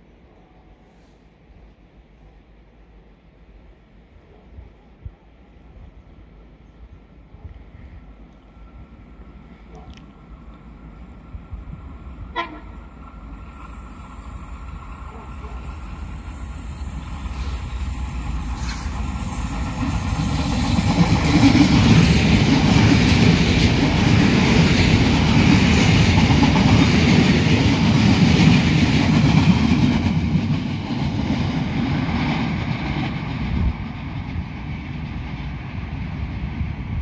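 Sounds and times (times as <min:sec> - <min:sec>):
passenger train wheels on rails: 0:00.0 - 0:37.0.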